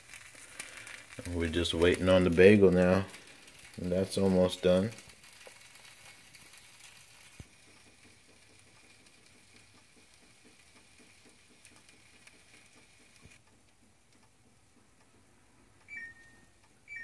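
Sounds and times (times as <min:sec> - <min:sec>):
soft regular ticking: 0:00.0 - 0:17.0.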